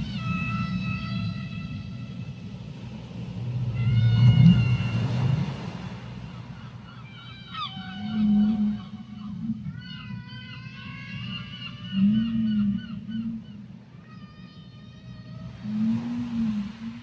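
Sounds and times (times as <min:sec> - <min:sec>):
short gliding whale calls: 0:00.0 - 0:17.0
whale moans: 0:00.0 - 0:17.0.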